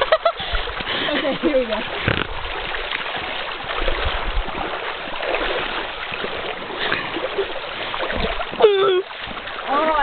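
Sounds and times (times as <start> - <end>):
stream water rushing: 0.0 - 10.0.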